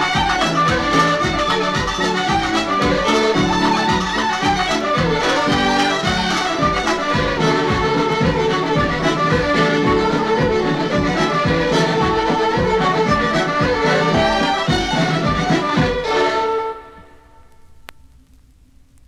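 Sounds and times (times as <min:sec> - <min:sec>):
folk band playing dance tunes: 0:00.0 - 0:17.2.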